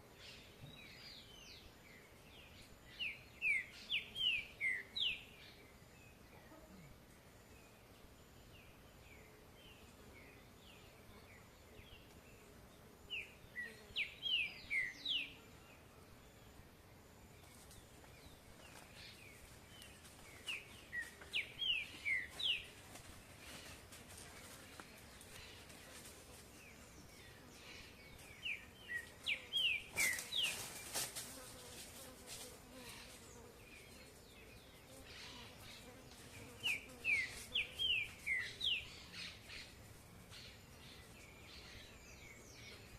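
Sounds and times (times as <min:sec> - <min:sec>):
faint outdoor background: 0:00.0 - 0:42.9.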